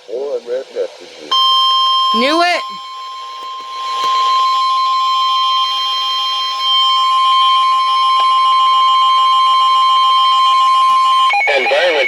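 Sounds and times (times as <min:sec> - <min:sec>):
electronic alarm tone: 0:01.3 - 0:12.0.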